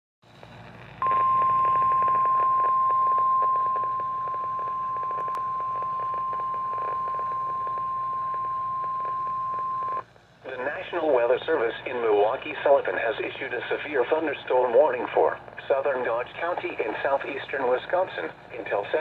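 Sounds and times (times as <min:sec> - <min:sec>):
radio static hiss: 0:00.3 - 0:19.0.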